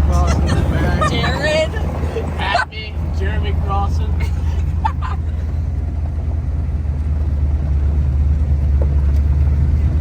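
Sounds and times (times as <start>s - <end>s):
truck engine rumble: 0.0s - 10.0s.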